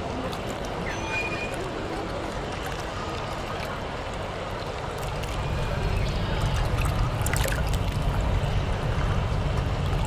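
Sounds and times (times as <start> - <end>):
running water: 0.0 - 10.0.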